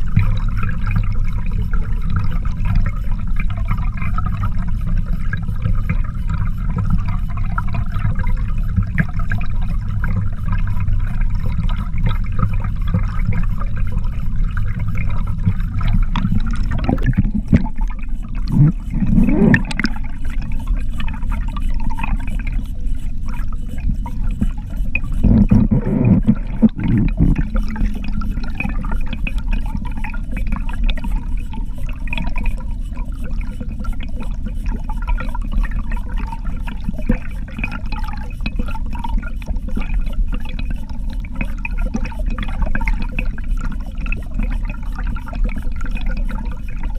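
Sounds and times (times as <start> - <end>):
fast even ticking: 0.0 - 46.9
underwater water rushing: 0.0 - 46.9.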